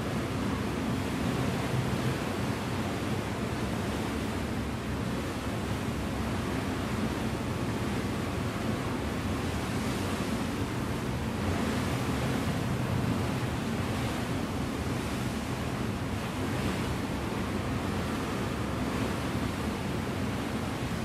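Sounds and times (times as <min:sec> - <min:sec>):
sea waves washing: 0:00.0 - 0:21.0.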